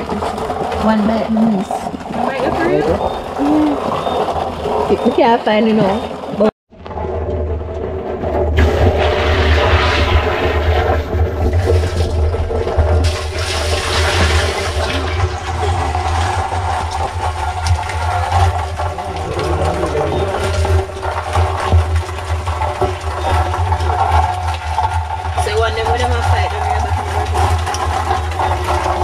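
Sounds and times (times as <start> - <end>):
water pouring and splashing: 0.0 - 29.0.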